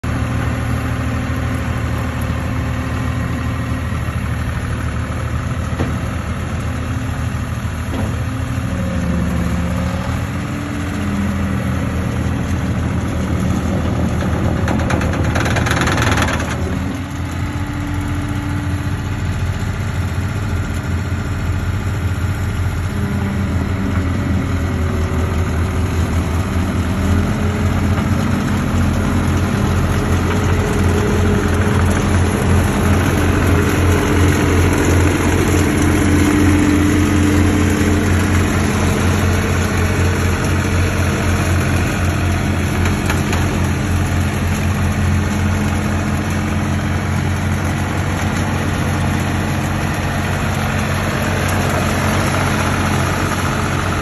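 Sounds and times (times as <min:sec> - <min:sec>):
skid steer diesel engine running: 0:00.0 - 0:54.0.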